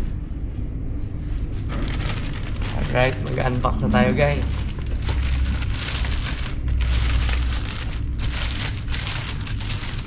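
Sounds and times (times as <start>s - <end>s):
low rumble: 0.0s - 10.0s
plastic bag rustling and crinkling: 1.6s - 10.0s.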